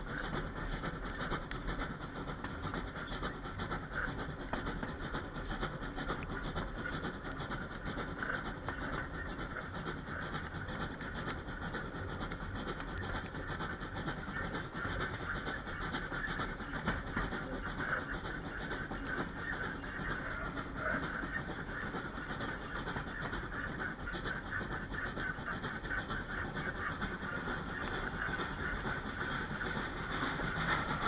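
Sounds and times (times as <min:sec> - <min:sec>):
train wheels clattering on track: 0:00.0 - 0:31.0.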